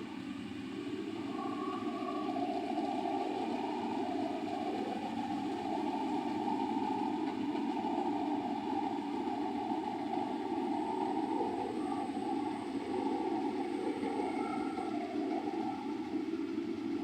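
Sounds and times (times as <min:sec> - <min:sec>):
combine harvester engine drone: 0:00.0 - 0:17.0.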